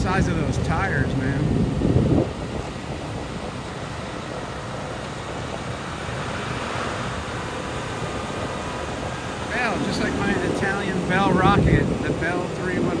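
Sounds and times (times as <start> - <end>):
dump trucks rumbling: 0.0 - 13.0
surf: 0.0 - 13.0
wind: 0.0 - 13.0.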